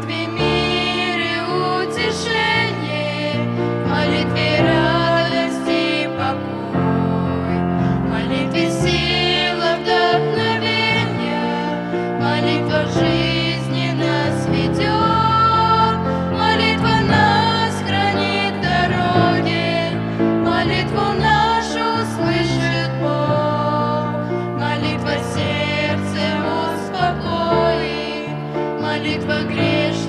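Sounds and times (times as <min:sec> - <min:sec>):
voices singing a hymn: 0:00.0 - 0:30.0.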